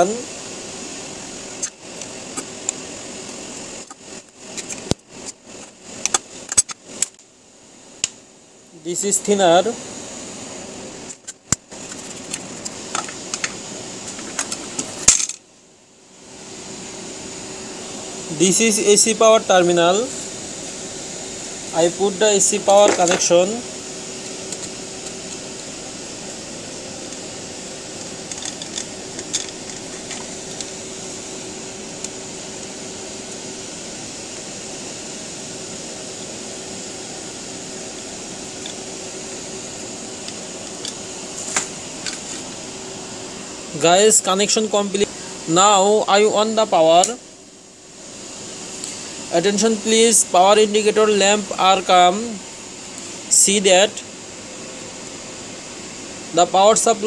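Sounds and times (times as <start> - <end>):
fan-like room hum: 0.0 - 57.0
steady background hiss: 0.0 - 57.0.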